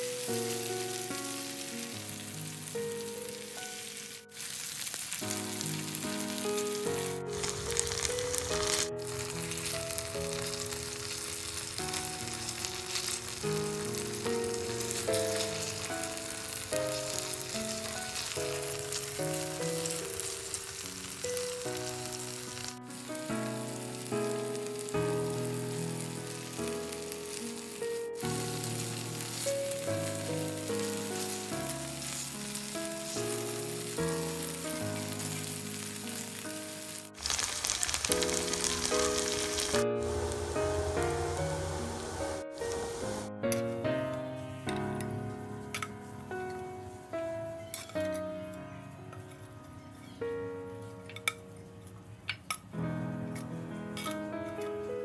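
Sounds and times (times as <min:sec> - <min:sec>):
background music: 0:00.0 - 0:37.4, 0:38.0 - 0:55.0
chicken sizzling in a pan: 0:00.0 - 0:44.5.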